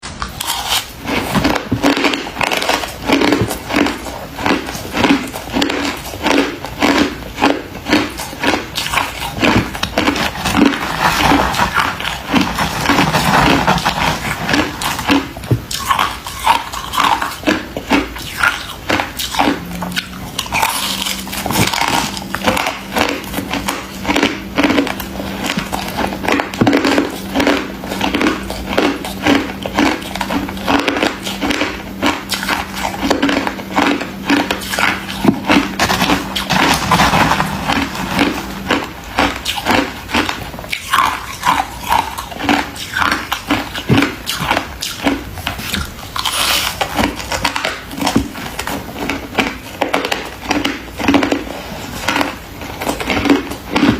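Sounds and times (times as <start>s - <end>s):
crunchy ice being chewed: 0.0s - 53.9s
faint low hum: 0.0s - 53.9s.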